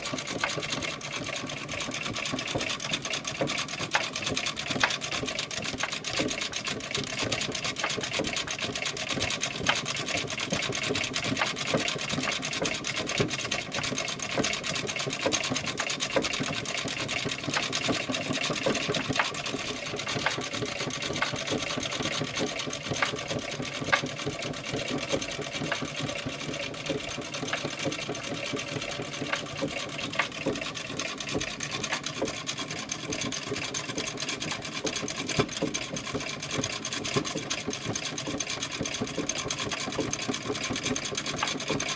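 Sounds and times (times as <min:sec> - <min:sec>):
sewing machine clattering: 0:00.0 - 0:41.9.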